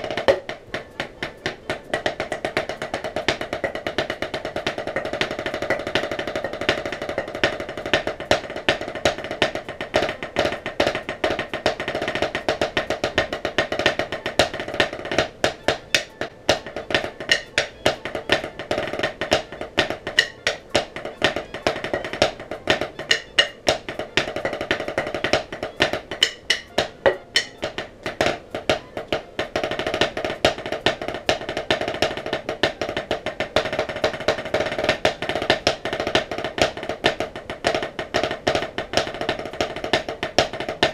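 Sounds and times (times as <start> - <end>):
drumsticks on practice pad: 0.0 - 40.9.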